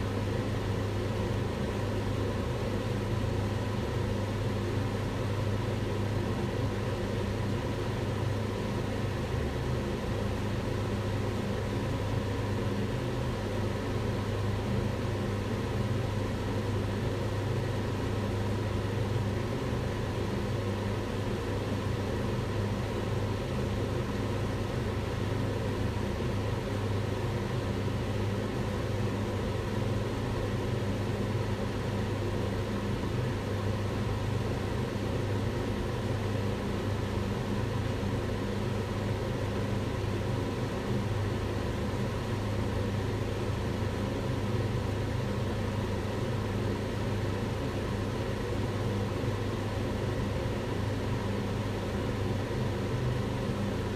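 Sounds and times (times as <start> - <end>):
range hood fan running: 0.0 - 53.9.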